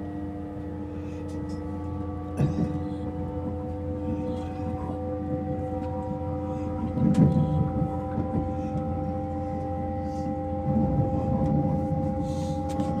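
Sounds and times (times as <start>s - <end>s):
low train rumble: 0.0s - 13.0s
train drive humming tones: 0.0s - 13.0s.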